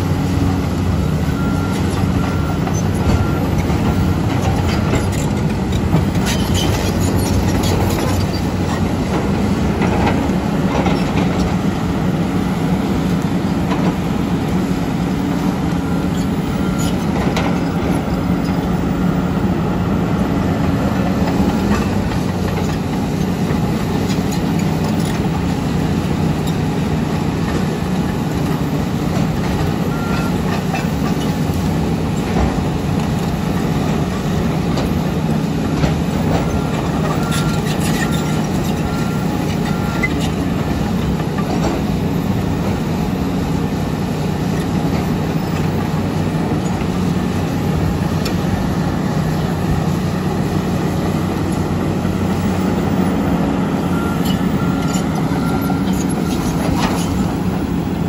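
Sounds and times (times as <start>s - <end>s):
bulldozer diesel engine drone: 0.0s - 58.0s
excavator engine: 0.0s - 58.0s.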